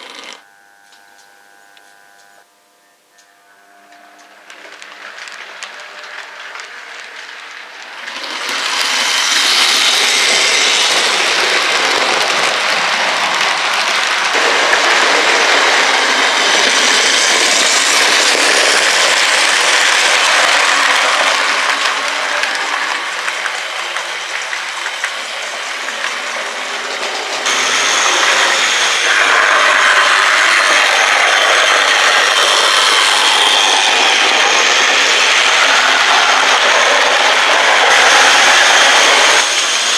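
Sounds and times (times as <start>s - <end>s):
model train whirring and rattling: 0.0s - 0.4s, 3.9s - 39.9s.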